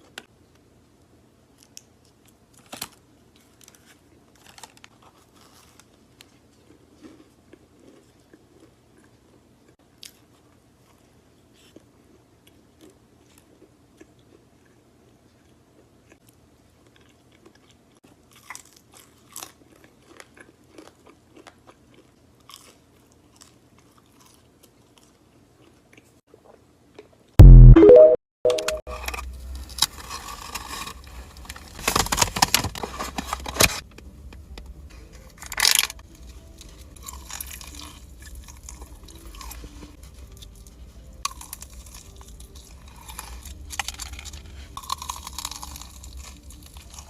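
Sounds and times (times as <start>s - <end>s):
person chewing crunchy food: 1.6s - 27.2s, 29.2s - 32.4s, 35.0s - 47.0s.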